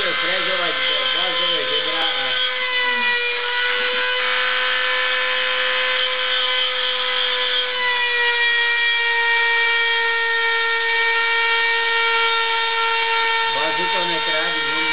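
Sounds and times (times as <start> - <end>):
router spindle whine milling wood: 0.0 - 14.9.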